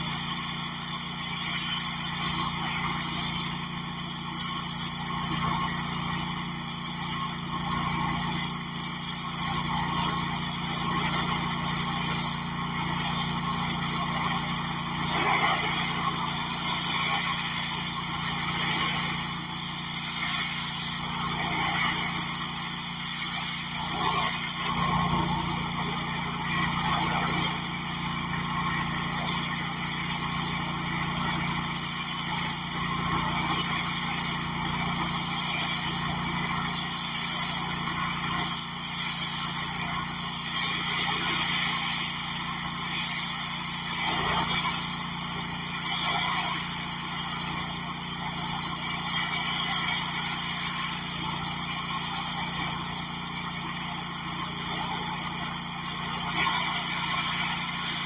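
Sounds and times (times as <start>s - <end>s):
pressure washer engine running: 0.0s - 58.0s.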